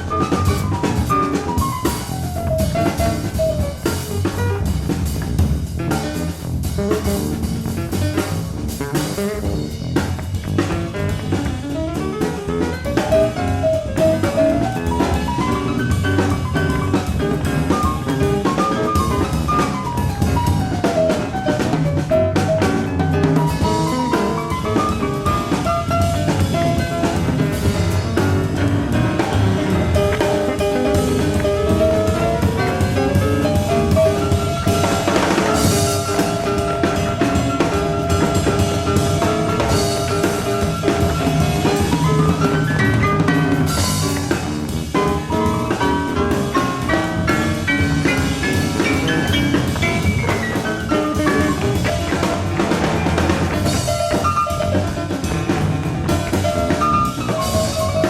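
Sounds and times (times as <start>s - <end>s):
jazz piano trio playing: 0.0s - 58.0s.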